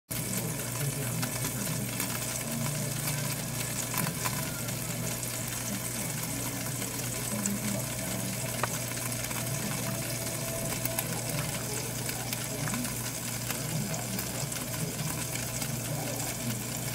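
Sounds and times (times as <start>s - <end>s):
faint crackles: 0.1s - 16.9s
toaster oven hum and hiss: 0.1s - 16.9s.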